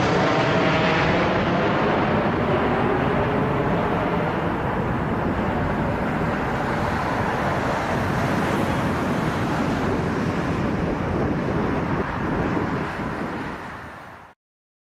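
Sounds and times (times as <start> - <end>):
jet airliner taking off: 0.0 - 14.3.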